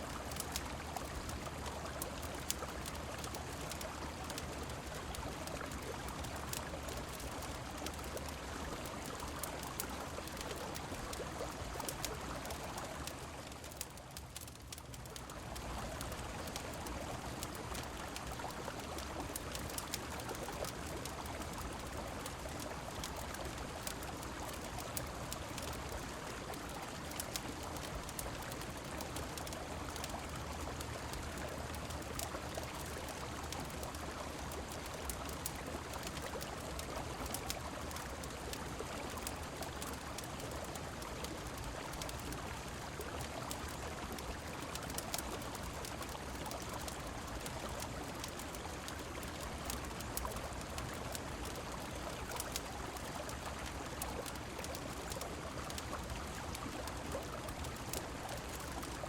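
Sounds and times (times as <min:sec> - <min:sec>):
flowing water and rain: 0:00.0 - 0:59.0
fire crackling: 0:00.2 - 0:59.0.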